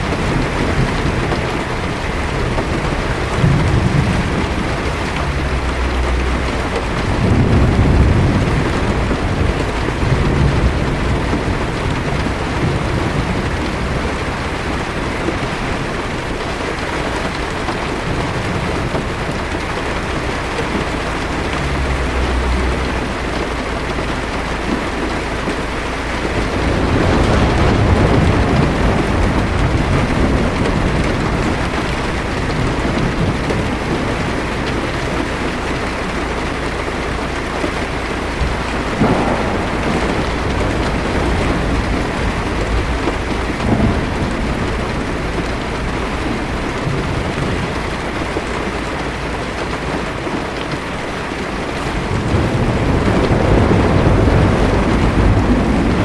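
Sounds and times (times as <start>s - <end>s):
thunder cracks: 0.0s - 35.7s, 37.6s - 48.6s, 51.3s - 56.0s
heavy rain on car windshield: 0.0s - 56.0s
thunder rumbling: 0.0s - 56.0s.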